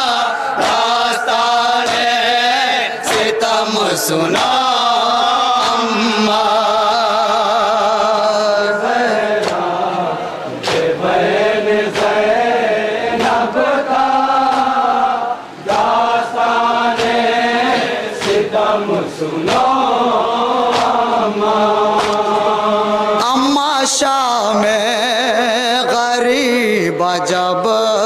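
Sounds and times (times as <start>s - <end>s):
rhythmic chest-beating slaps: 0.0s - 24.1s
men chanting through loudspeaker: 0.0s - 28.0s.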